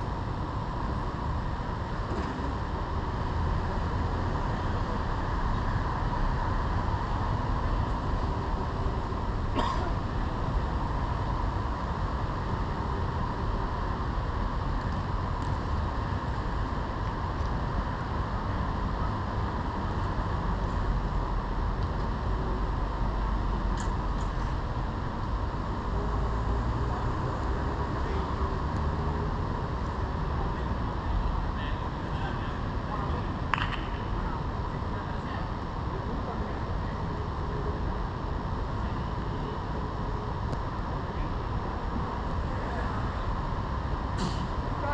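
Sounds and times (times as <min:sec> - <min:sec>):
steady rumbling noise: 0:00.0 - 0:44.9.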